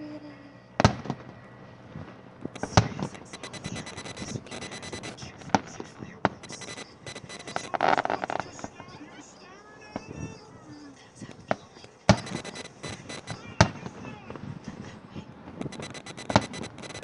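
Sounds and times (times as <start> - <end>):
fireworks booming: 0.7 - 17.0
fireworks crackling pops: 0.8 - 9.3, 9.9 - 17.0.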